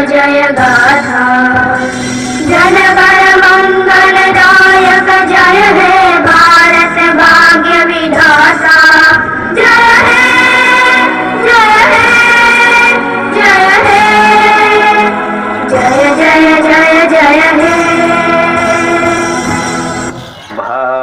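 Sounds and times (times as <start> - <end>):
instrumental backing music: 0.0 - 21.0.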